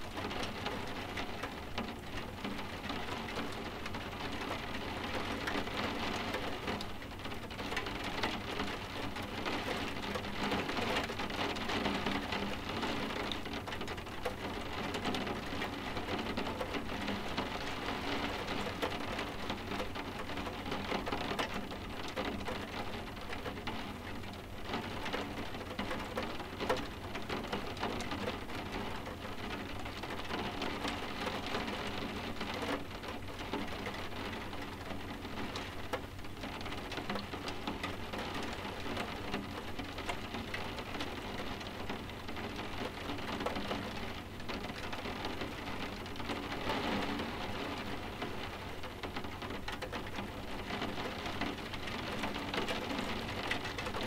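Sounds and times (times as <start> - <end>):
soft steady rain: 0.0 - 54.0.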